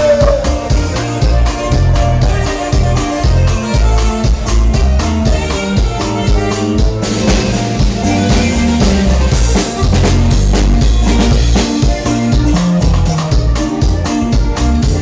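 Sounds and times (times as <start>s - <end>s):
dance band music: 0.0s - 15.0s.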